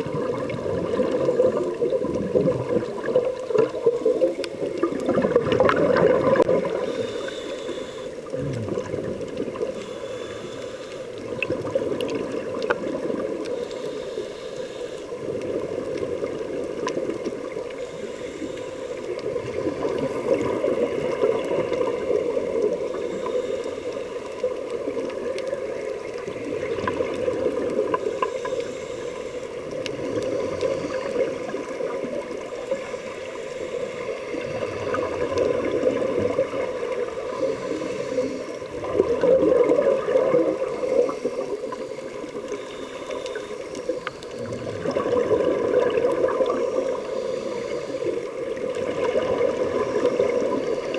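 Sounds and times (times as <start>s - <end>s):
muffled underwater bubbles gurgling: 0.0s - 50.9s.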